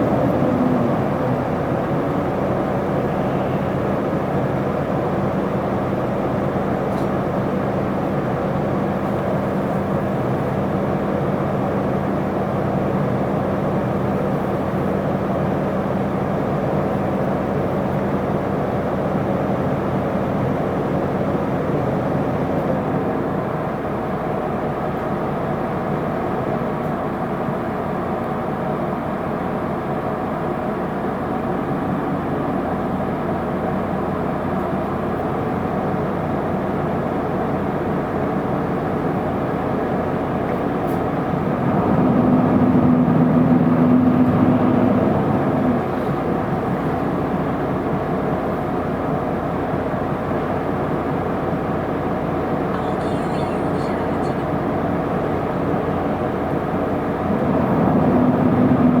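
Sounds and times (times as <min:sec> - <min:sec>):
bus engine hum from inside: 0:00.0 - 0:59.0.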